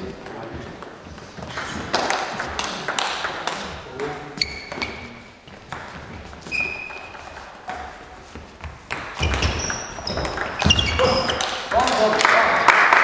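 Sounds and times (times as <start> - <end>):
table tennis ball bouncing: 0.2 - 12.6.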